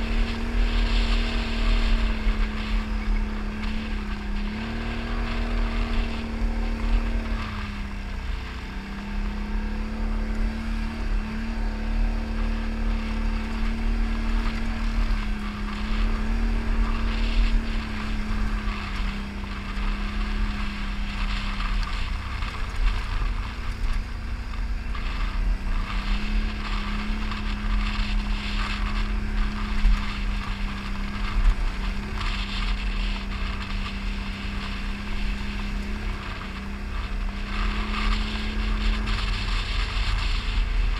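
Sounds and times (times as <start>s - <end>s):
atv engine running: 0.0s - 40.9s
low rumble and hiss: 0.0s - 40.9s.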